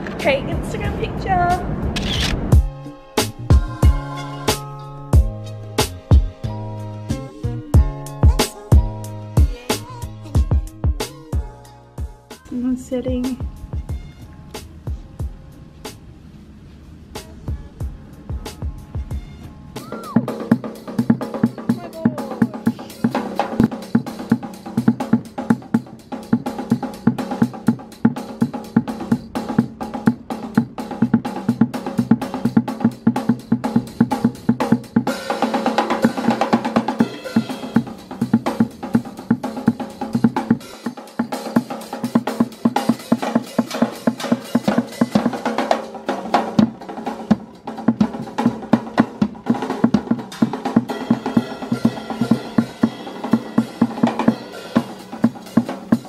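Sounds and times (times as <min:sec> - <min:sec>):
pitched backing line: 0:00.0 - 0:56.0
drum kit fast beat: 0:02.5 - 0:15.4, 0:17.2 - 0:56.0.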